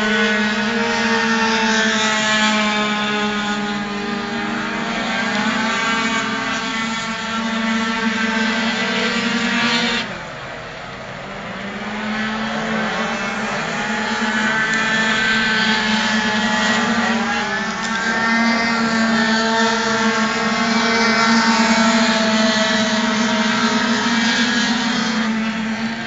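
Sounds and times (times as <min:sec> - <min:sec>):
racing scooter engines: 0:00.0 - 0:26.0.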